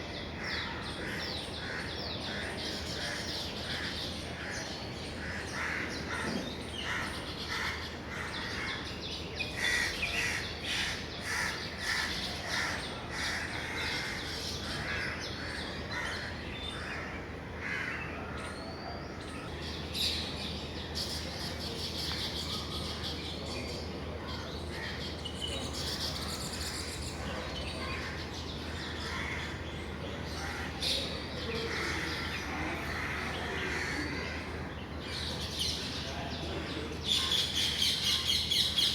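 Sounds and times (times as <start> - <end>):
birds chirping and chattering: 0.1 - 38.9.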